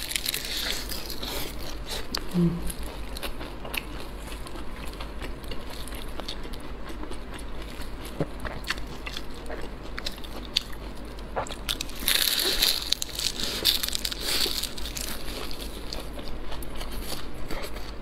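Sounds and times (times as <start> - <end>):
crisp pastry crunch: 0.0 - 18.0.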